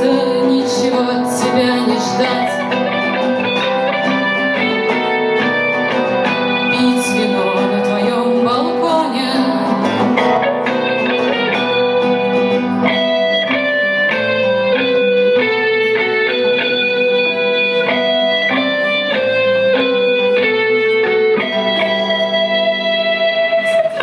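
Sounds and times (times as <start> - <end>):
guitar-led instrumental music: 0.0 - 24.0.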